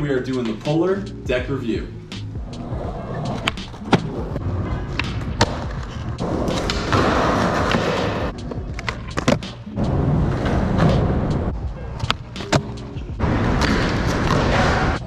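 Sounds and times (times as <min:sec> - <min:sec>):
skateboard wheels rolling on concrete: 0:02.4 - 0:15.0.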